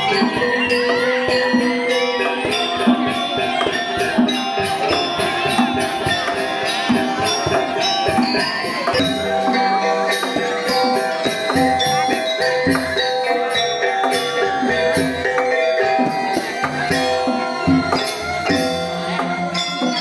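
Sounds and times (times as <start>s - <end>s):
metallophone notes ringing: 0.0s - 20.0s
struck percussion rhythm: 0.0s - 20.0s.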